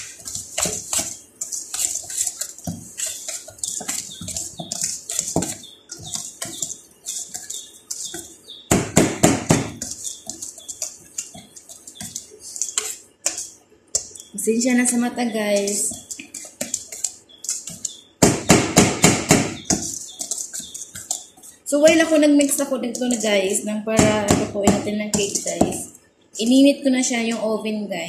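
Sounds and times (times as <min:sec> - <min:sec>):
whisk scraping in metal bowl: 0:00.0 - 0:25.8.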